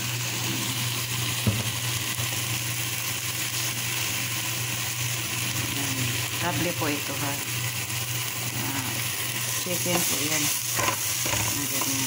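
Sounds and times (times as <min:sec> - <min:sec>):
chicken frying in a pot: 0:00.0 - 0:12.0.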